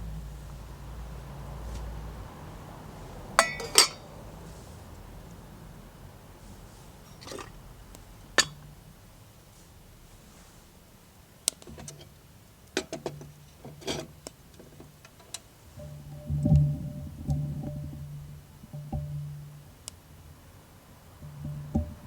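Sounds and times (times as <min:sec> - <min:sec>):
faint low hum: 0:00.0 - 0:12.2, 0:14.8 - 0:22.0.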